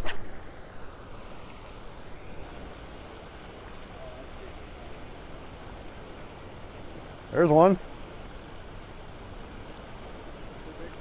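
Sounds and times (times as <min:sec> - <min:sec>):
water rushing through spillway: 0:00.0 - 0:11.0.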